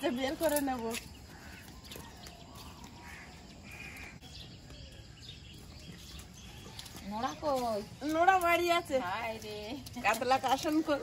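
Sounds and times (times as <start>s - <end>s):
distant bird calls: 0.0s - 10.8s
faint rural ambience: 0.0s - 11.0s.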